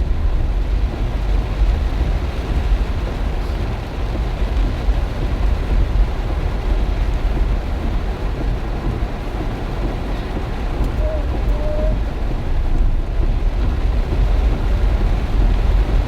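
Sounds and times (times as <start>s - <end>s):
heavy rain: 0.0s - 16.0s
wind gusts hitting microphone: 0.0s - 16.0s.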